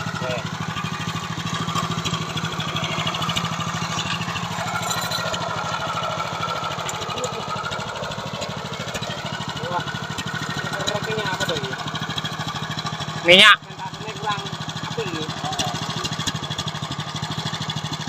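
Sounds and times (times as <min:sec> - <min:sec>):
small tiller engine puttering: 0:00.0 - 0:18.0.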